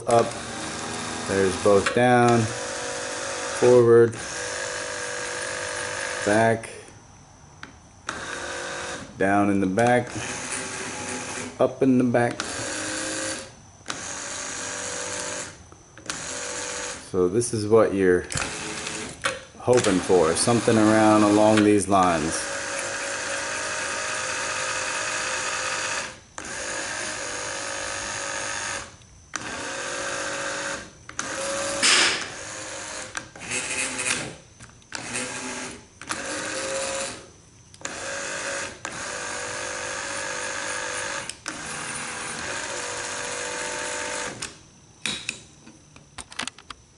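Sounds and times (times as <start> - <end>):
power seat motor whine: 0.0 - 46.9.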